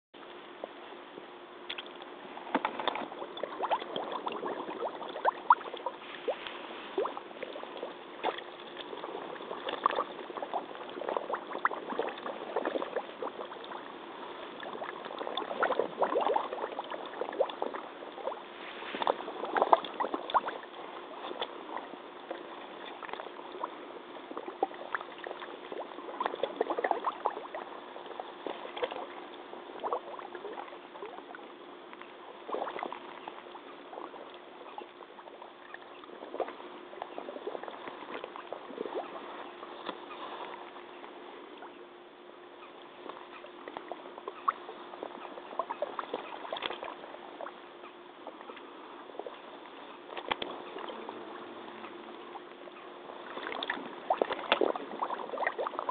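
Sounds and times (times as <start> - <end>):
water sloshing around waders: 1.6 - 41.8, 42.6 - 55.9
bubbles gurgling: 1.7 - 41.8, 42.8 - 55.9
water splashing: 1.7 - 41.8, 42.7 - 55.9.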